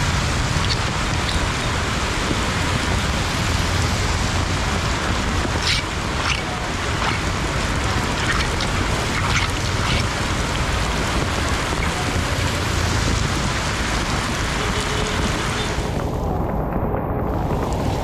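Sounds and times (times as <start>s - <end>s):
heavy rain hiss: 0.0s - 16.1s
faint water splashes: 0.0s - 16.2s.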